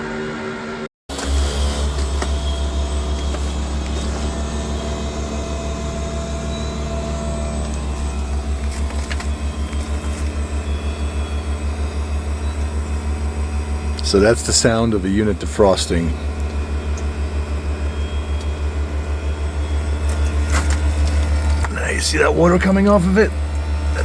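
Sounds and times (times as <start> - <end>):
heat pump deep pulsing hum: 1.1 - 24.0.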